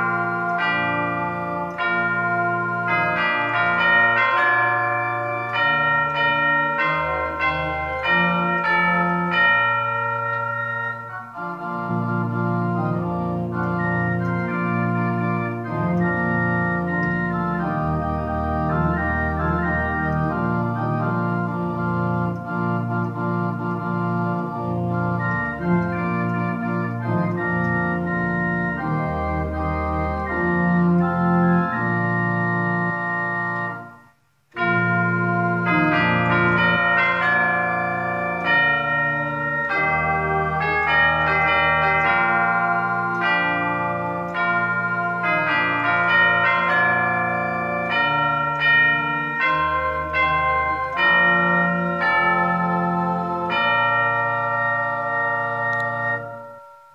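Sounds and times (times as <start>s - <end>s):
church organ playing a hymn: 0.0s - 56.9s.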